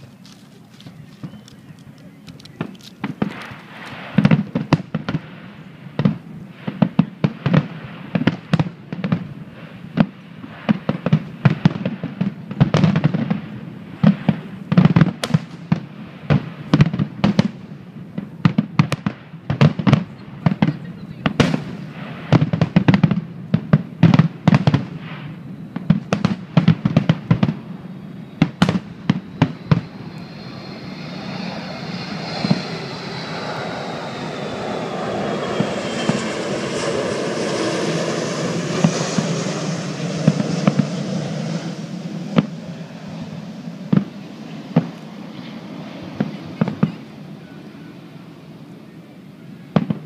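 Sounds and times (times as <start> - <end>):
fireworks bangs: 0.0 - 1.8, 2.6 - 33.4, 35.4 - 45.1, 46.0 - 47.0, 49.7 - 50.0.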